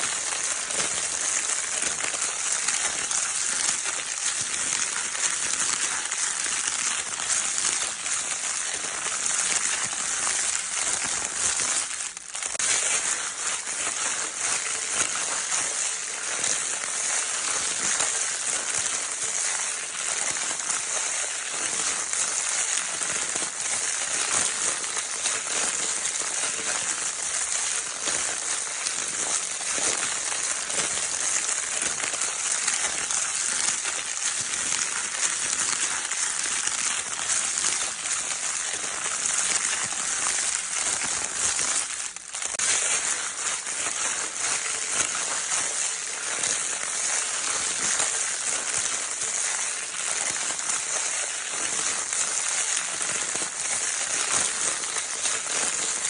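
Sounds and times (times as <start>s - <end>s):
crinkle paper toy rustling: 0.0s - 56.0s.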